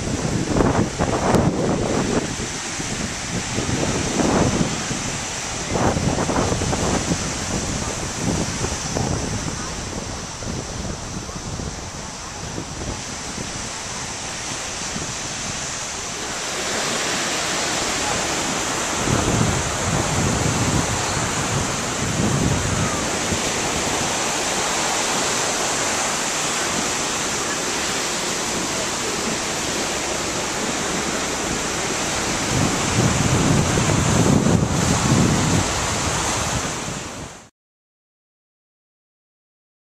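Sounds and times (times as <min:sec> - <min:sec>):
low gusty rumbles: 0:00.0 - 0:37.4
wind buffeting microphone: 0:00.0 - 0:37.4
surf washing onto beach: 0:00.0 - 0:37.5.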